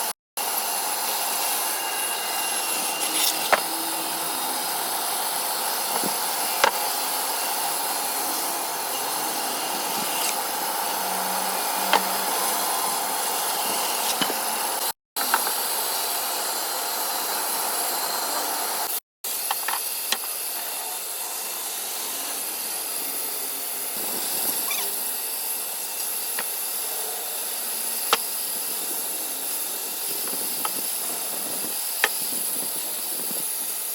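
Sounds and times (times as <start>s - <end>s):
woodworking machine cutting wood: 0.0s - 33.9s.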